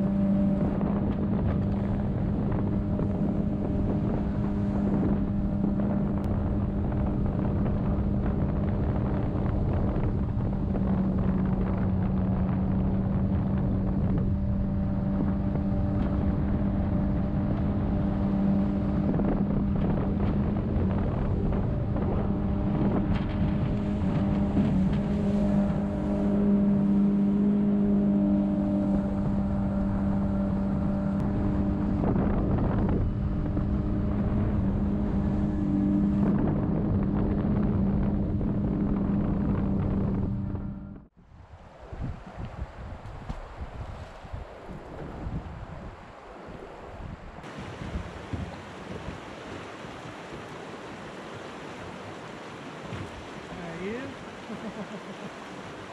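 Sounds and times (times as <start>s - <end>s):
boat motor drone: 0.0s - 43.5s, 44.4s - 55.9s
wind buffeting microphone: 0.0s - 55.9s.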